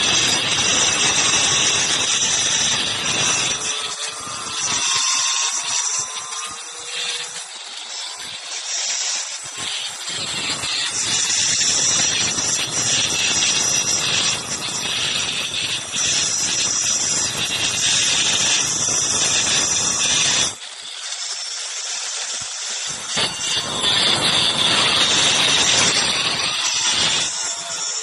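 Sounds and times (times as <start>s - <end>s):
electric stone cutter grinding: 0.0s - 28.0s.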